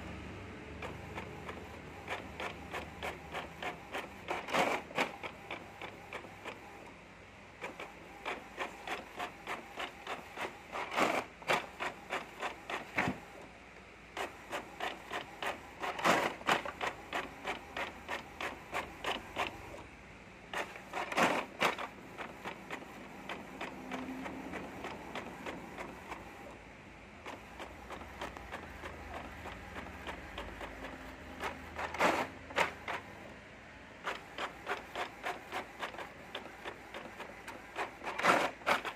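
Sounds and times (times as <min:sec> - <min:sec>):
inkjet printer carriage ticking: 0:00.8 - 0:06.7, 0:07.6 - 0:13.3, 0:14.2 - 0:19.8, 0:20.5 - 0:26.5, 0:27.2 - 0:33.3, 0:34.0 - 0:38.9.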